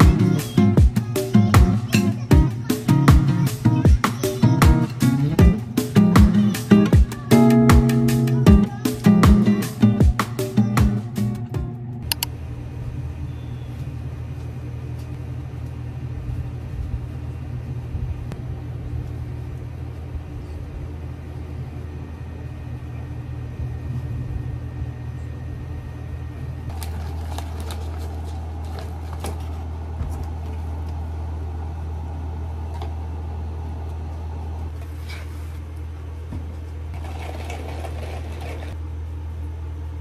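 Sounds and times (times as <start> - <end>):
low room hum: 0.0 - 40.0.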